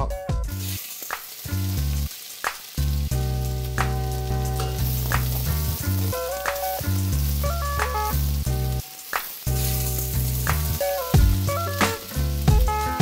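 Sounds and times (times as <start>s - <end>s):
background music with chords: 0.0s - 0.8s, 2.8s - 13.0s
onion sizzling in oil: 0.4s - 13.0s.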